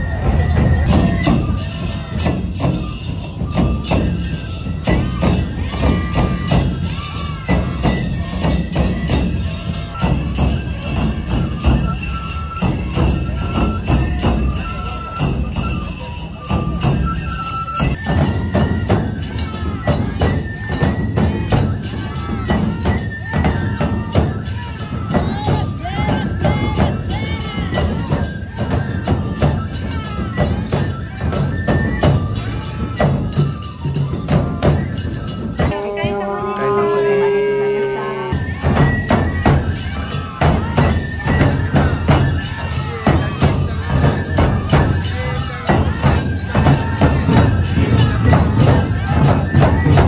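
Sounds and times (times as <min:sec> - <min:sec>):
bamboo flute melody: 0:00.0 - 0:50.0
large taiko drums beating: 0:00.0 - 0:50.0
hand cymbals clashing: 0:00.6 - 0:50.0.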